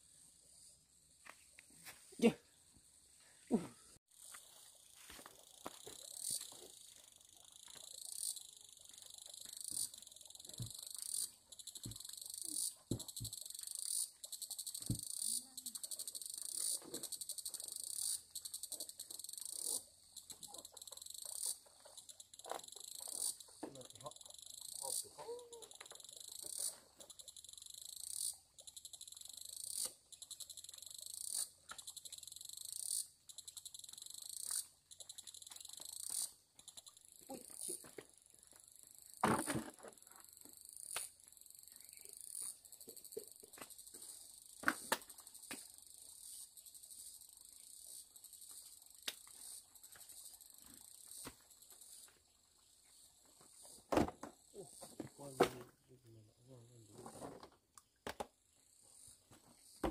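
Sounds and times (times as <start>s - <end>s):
insect calling high-pitched: 4.2s - 39.4s, 40.0s - 53.8s.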